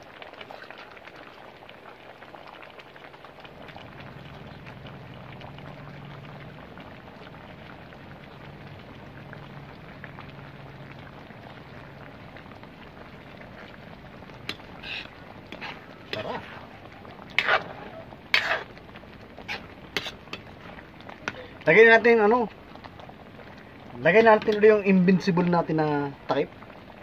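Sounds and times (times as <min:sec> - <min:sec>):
stew simmering with popping bubbles: 0:00.0 - 0:27.0.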